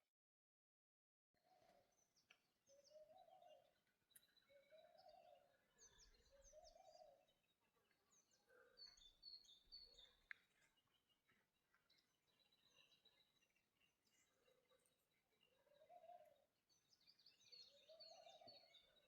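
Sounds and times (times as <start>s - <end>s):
birds chirping and trilling: 1.4s - 19.0s.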